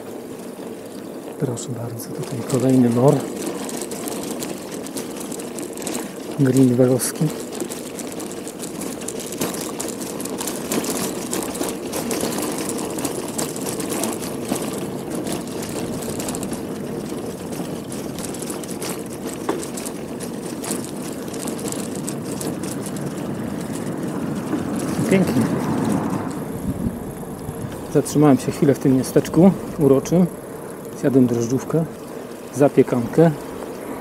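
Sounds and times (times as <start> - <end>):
bicycle whirring: 0.0 - 34.0.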